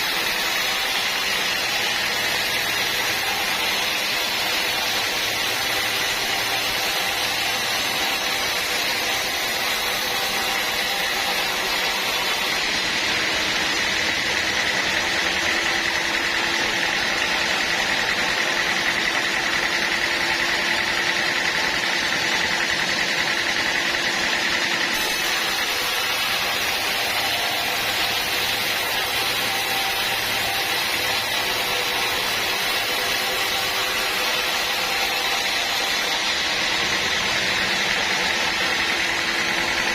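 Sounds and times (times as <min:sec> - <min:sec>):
saw high whine: 0:00.0 - 0:39.9
sawmill machinery running: 0:00.0 - 0:39.9.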